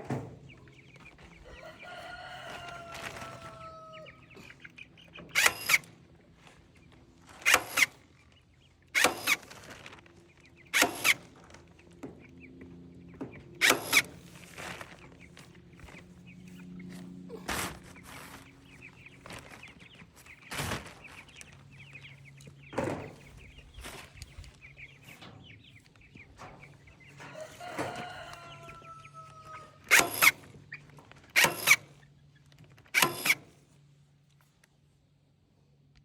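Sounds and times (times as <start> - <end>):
chickens clucking: 0.0 - 35.3.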